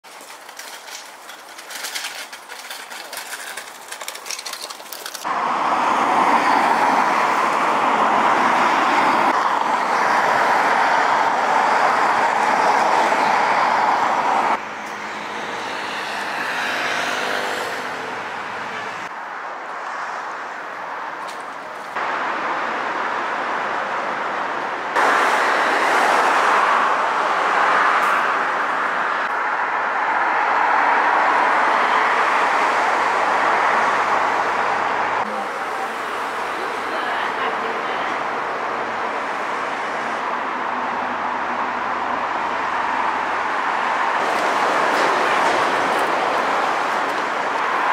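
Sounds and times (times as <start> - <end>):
passing cars: 0.0 - 47.9.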